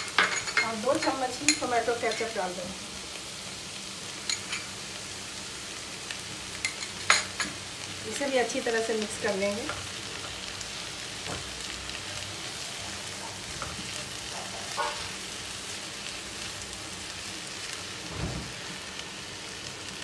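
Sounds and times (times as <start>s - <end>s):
vegetables sizzling in a frying pan: 0.0s - 20.0s.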